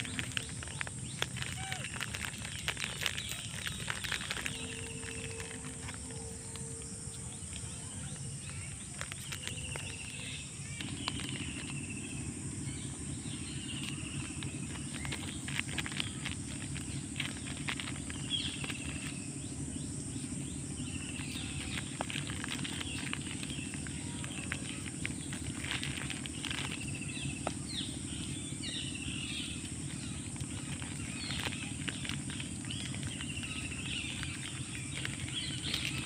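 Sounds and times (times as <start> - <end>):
crackly clicks: 0.0 - 36.0
high insect drone: 0.0 - 36.0
low steady hum: 0.0 - 36.0.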